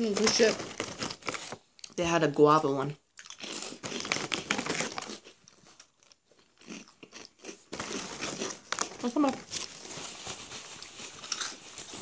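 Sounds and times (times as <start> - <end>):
people crunching snacks: 0.0 - 2.0, 3.2 - 12.0.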